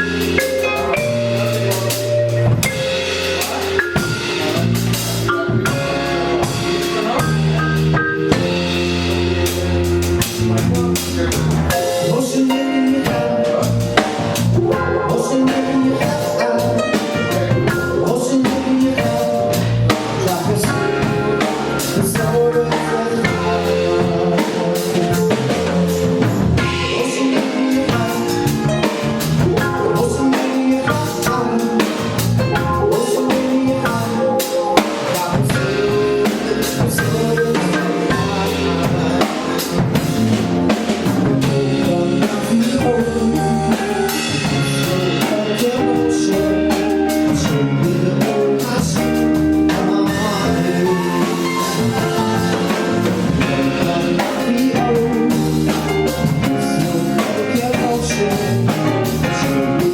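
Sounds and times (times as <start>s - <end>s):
band playing live: 0.0s - 59.9s
drum kit beat: 0.0s - 59.9s.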